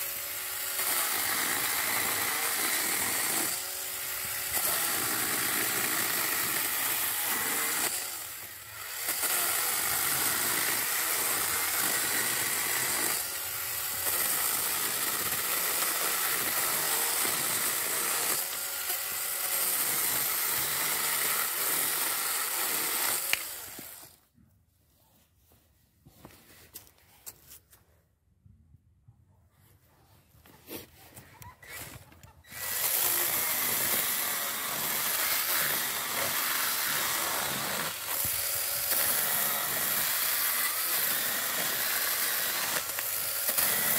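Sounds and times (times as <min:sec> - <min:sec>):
electric chainsaw cutting wood: 0:00.0 - 0:24.2, 0:31.6 - 0:43.9.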